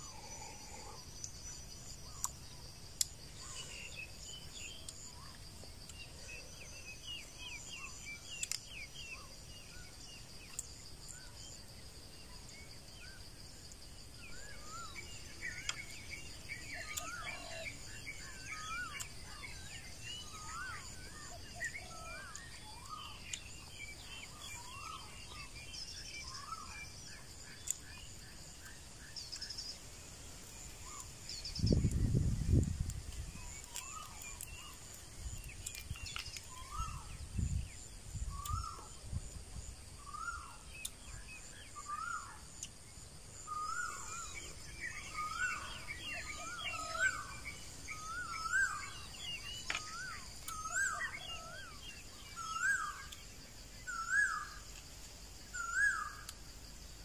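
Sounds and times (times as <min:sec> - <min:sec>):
birds chirping: 0:00.0 - 0:37.2, 0:40.0 - 0:54.8
small bird calls: 0:00.0 - 0:57.0.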